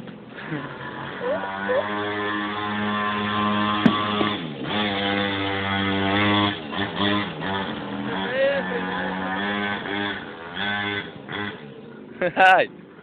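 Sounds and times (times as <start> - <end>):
small motorbike engine revving: 0.3 - 12.3.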